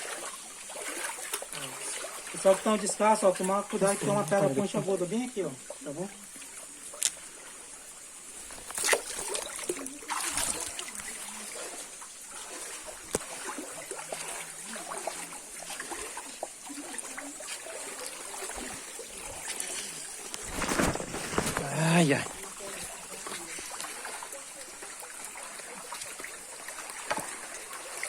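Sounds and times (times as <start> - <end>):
loud water splashes: 0.0 - 7.7, 8.4 - 28.0
shallow water trickling: 0.0 - 28.0.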